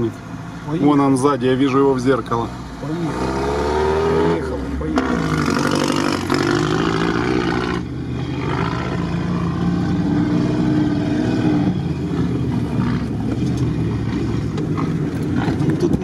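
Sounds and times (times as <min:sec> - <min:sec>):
off-road vehicle engine driving: 0:00.0 - 0:16.0.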